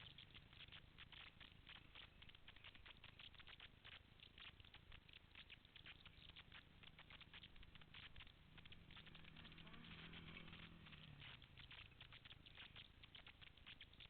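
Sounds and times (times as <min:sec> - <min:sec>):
faint rapid clicking and crackling: 0:00.0 - 0:14.0.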